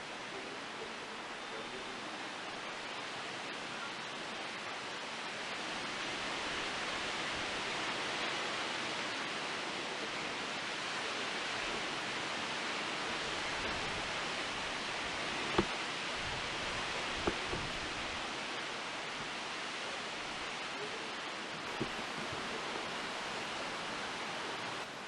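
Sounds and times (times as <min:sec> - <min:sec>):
wind rustling tree leaves: 0:00.0 - 0:25.0.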